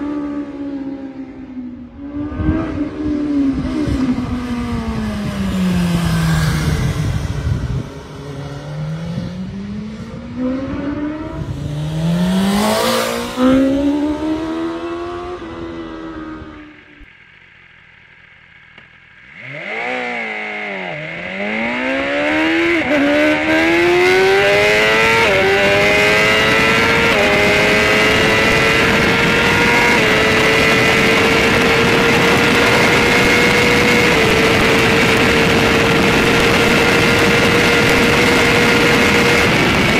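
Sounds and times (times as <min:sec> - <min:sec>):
motorcycle engine revving: 0:00.0 - 0:39.9
wind rush: 0:01.9 - 0:17.1, 0:21.7 - 0:39.9.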